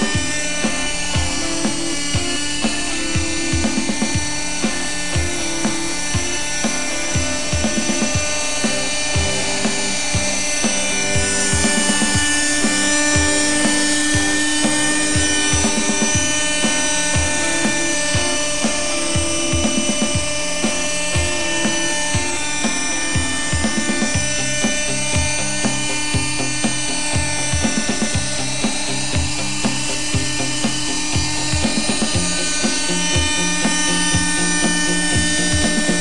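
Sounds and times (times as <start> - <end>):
background music with beat: 0.0 - 36.0
model helicopter engine whining: 0.0 - 36.0.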